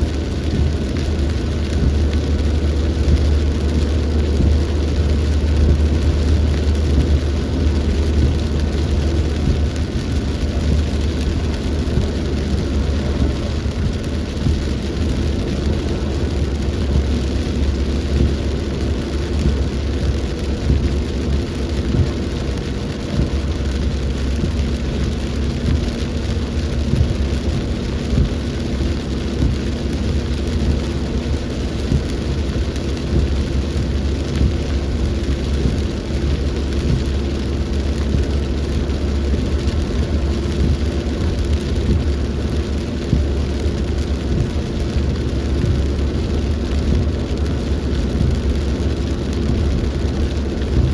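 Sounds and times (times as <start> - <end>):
deep rumble: 0.0 - 50.9
heavy rain falling: 0.0 - 50.9.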